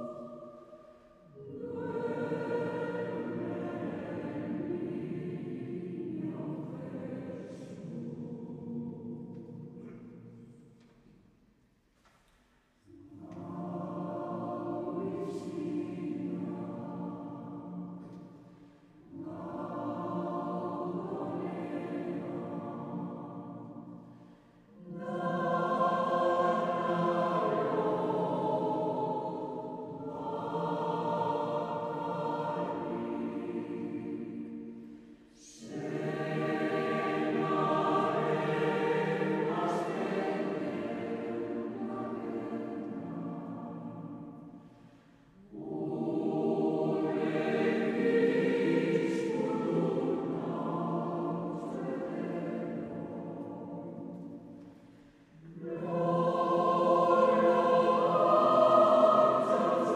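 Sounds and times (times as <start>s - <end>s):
choir singing sustained chords: 0.0s - 11.0s, 12.8s - 59.9s.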